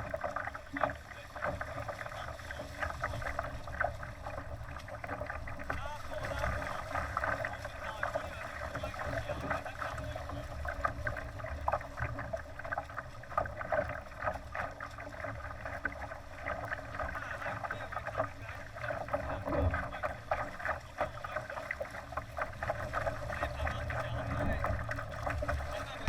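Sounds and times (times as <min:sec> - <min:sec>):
water splashing against hull: 0:00.0 - 0:26.0.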